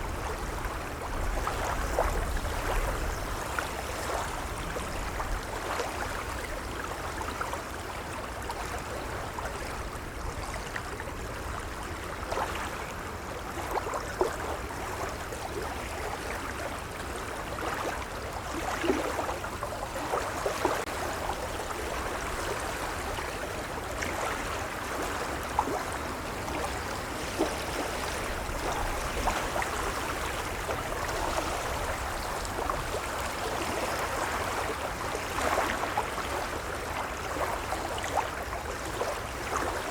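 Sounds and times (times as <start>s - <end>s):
gentle waves lapping: 0.0s - 39.9s.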